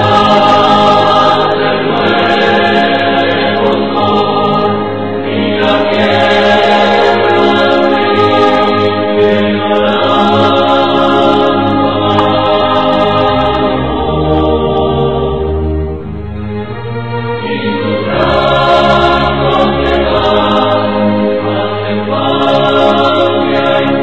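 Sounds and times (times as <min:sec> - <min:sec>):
choir singing held chords: 0:00.0 - 0:24.0.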